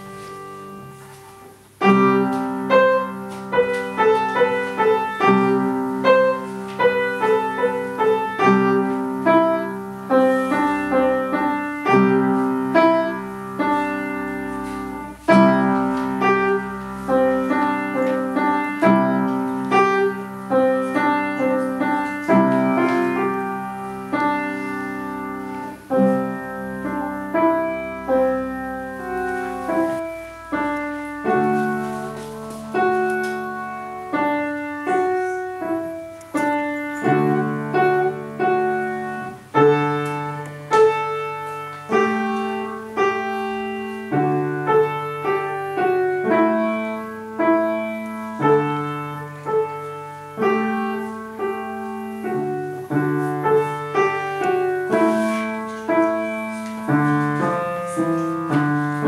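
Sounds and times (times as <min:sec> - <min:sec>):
acoustic piano playing: 0:00.0 - 0:59.0.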